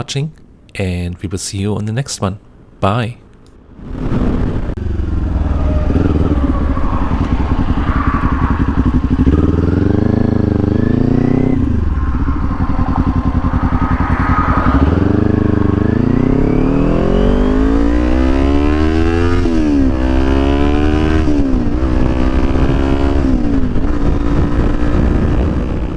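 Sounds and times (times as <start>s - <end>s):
motorcycle engine accelerating: 3.8s - 25.9s.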